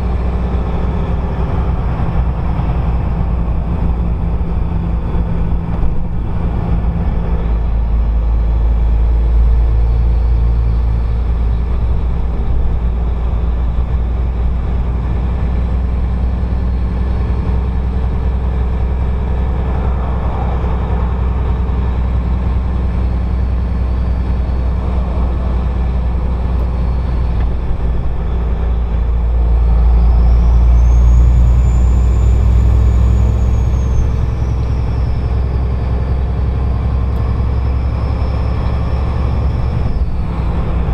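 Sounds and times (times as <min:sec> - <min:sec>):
turbocharged engine drone: 0:00.0 - 0:40.9.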